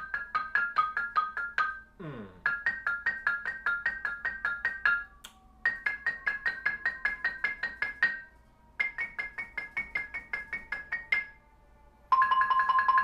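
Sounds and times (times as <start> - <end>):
xylophone played with mallets: 0.0 - 11.4, 12.1 - 13.0.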